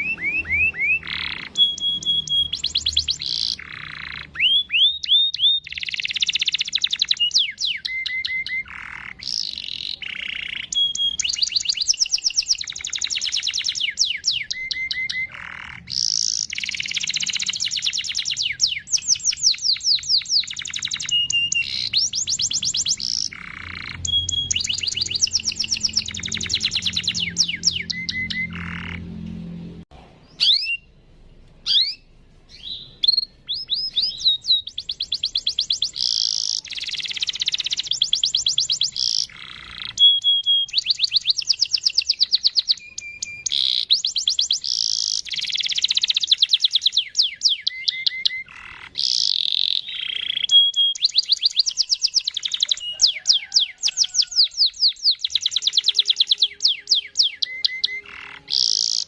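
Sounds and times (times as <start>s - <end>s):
canary chirping and trilling: 0.0s - 59.0s.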